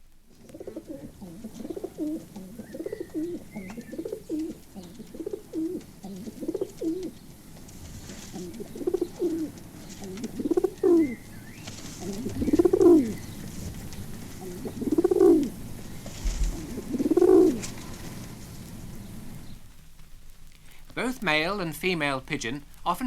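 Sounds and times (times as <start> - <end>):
pigeon cooing: 0.3 - 19.6.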